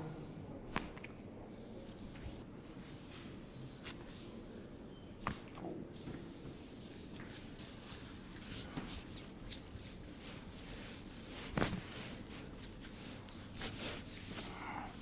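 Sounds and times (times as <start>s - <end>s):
rustling and shuffling on a table: 1.8s - 4.4s, 5.2s - 15.0s.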